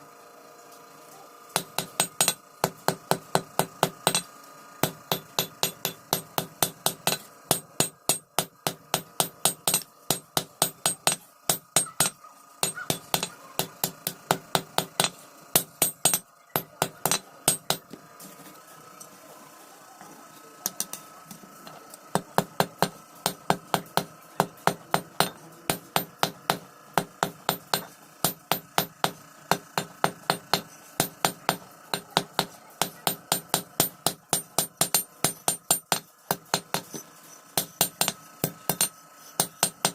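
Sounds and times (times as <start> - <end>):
hammer striking iron on anvil: 1.6 - 18.0, 22.1 - 37.0, 37.6 - 39.9.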